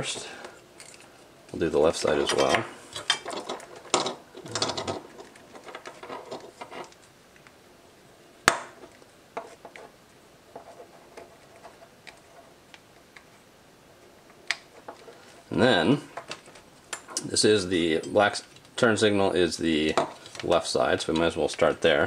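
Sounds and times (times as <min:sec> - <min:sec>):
rustling of wiring: 0:00.0 - 0:07.6, 0:08.8 - 0:22.0.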